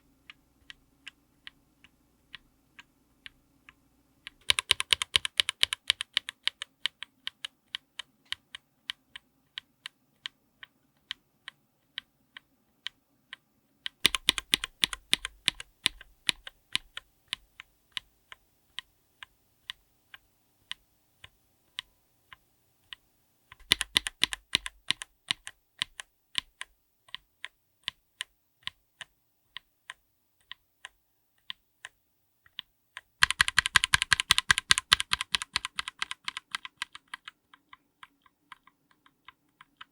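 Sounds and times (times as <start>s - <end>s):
mechanical keyboard typing: 0.2s - 39.9s.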